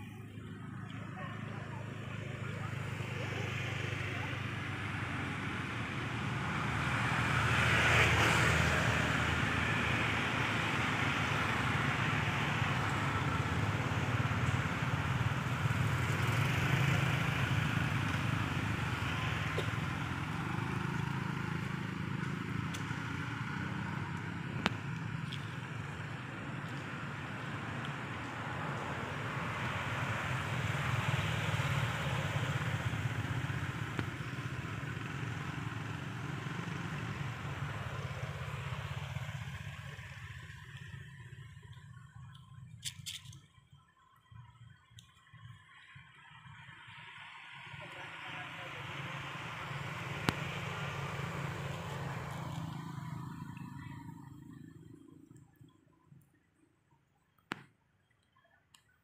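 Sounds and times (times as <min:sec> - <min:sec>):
traffic noise with low hum: 0:00.0 - 0:56.6.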